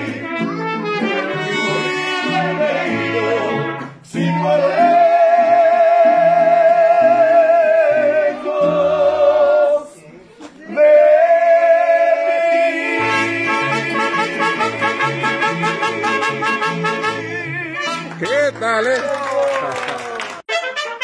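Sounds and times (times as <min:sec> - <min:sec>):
man singing with vibrato: 0:00.0 - 0:18.2
mariachi band playing: 0:00.0 - 0:19.1, 0:20.4 - 0:21.0.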